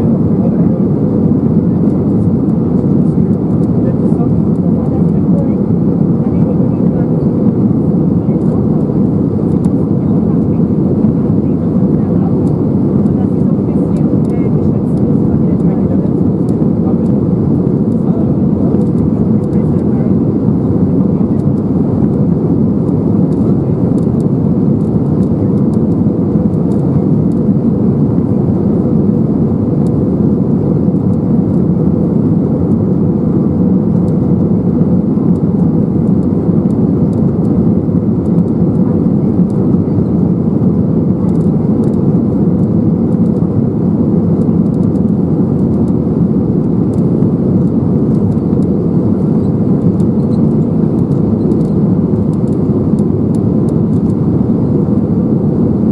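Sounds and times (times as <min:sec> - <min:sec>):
airplane cabin engine and airflow: 0:00.0 - 0:55.9.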